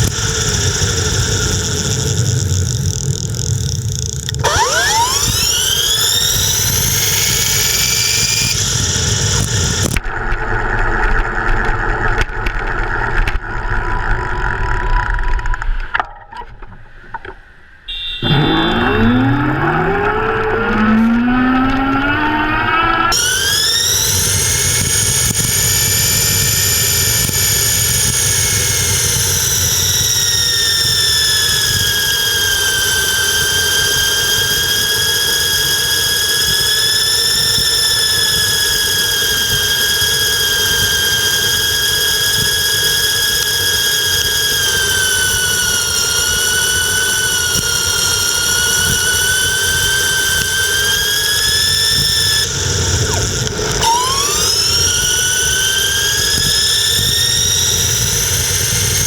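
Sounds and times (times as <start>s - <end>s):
electric motor whining: 0.0s - 10.0s, 18.2s - 59.0s.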